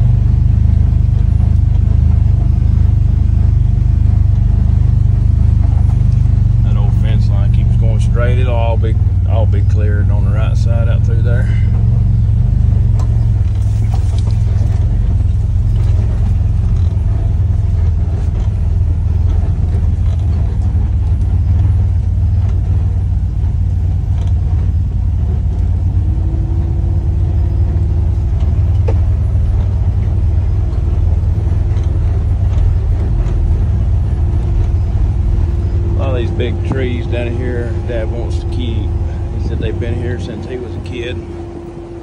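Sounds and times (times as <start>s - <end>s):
faint steady whine: 0.0s - 42.0s
utv engine running: 0.0s - 42.0s.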